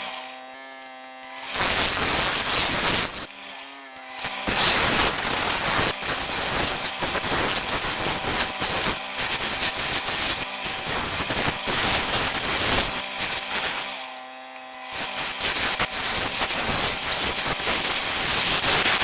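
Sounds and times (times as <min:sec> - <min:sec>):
tool scraping spinning wood: 0:00.0 - 0:19.0.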